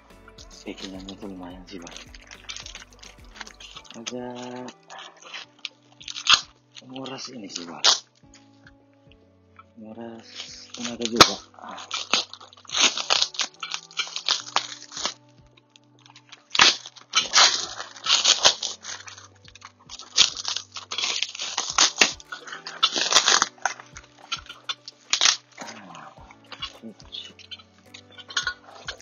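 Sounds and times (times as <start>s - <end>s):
quiet background music: 0.0s - 29.0s.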